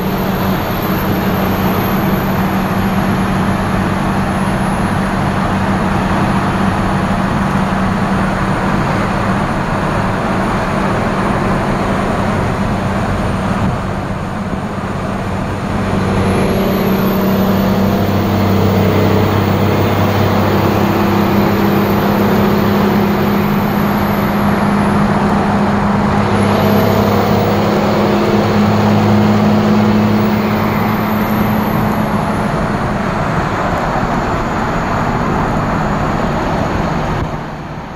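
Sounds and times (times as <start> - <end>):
turbocharger whistling: 0.0 - 10.7, 14.2 - 36.2
diesel engine drone: 0.0 - 37.9.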